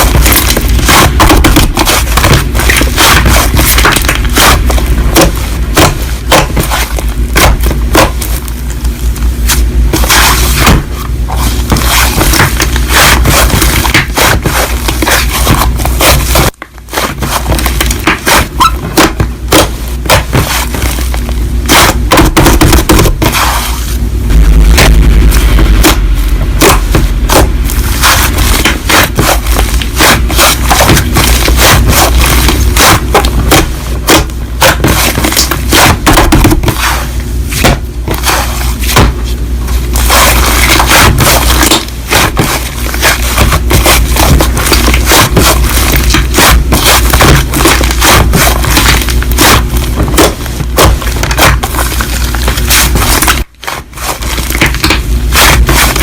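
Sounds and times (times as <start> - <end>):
crunchy slime crackling: 0.0 - 56.0.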